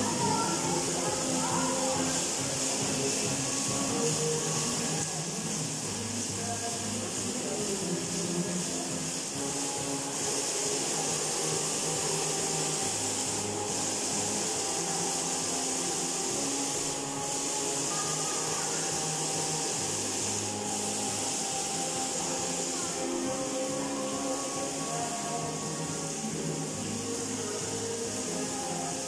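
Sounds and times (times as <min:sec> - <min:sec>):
quiet music: 0:00.0 - 0:29.0
water curtain hissing into pool: 0:00.0 - 0:29.0.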